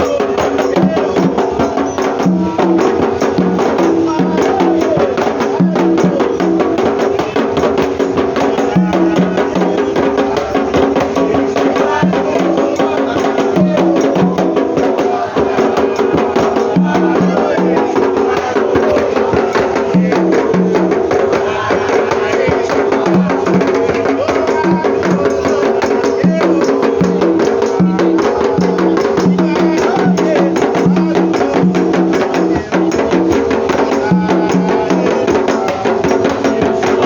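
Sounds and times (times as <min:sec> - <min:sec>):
percussion music with singing: 0:00.0 - 0:37.0.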